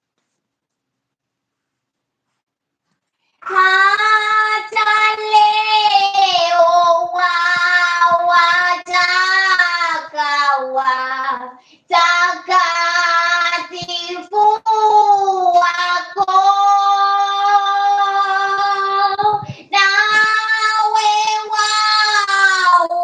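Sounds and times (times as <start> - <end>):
high voice singing unaccompanied: 3.4 - 23.0.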